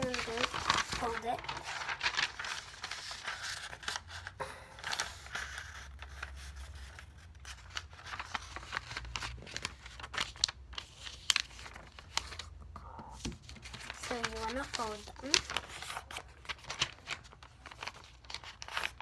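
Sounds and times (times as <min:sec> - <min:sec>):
paper rustling and creasing: 0:00.0 - 0:19.0.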